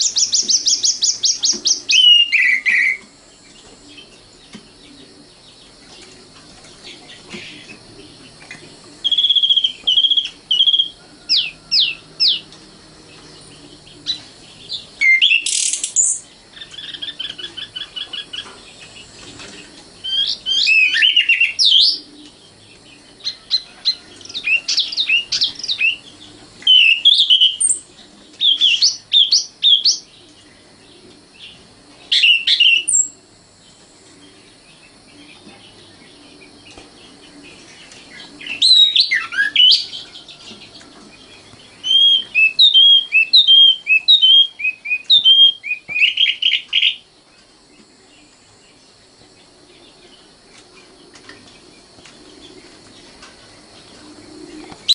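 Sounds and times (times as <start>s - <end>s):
nightingale singing: 0.0s - 54.9s.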